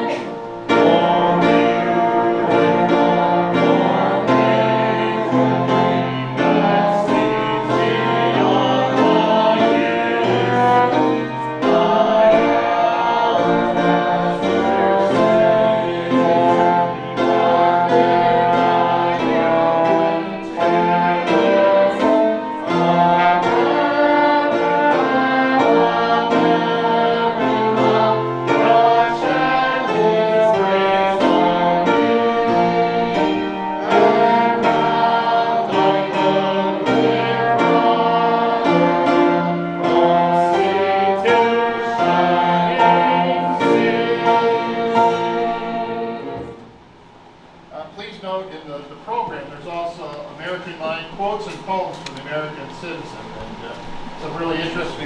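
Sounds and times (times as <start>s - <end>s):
instrumental accompaniment: 0.0s - 47.7s
congregation singing a hymn: 0.0s - 55.0s.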